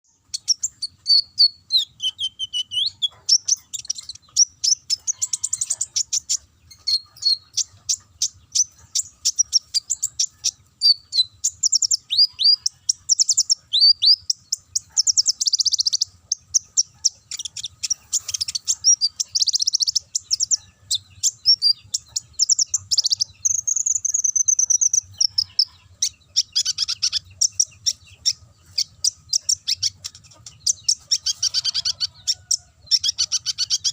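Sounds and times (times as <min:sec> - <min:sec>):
bird singing chirps and trills: 0:00.0 - 0:33.9.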